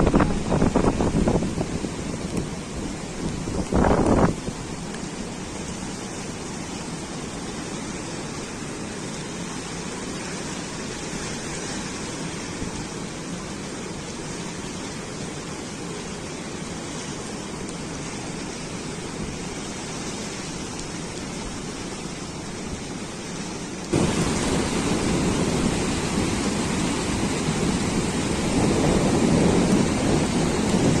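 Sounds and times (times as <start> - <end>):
fast-flowing river: 0.0 - 31.0
heavy rain: 0.0 - 31.0.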